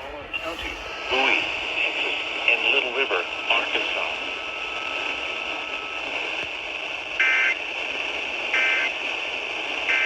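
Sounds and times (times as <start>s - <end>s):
radio receiver hiss: 0.0s - 10.0s.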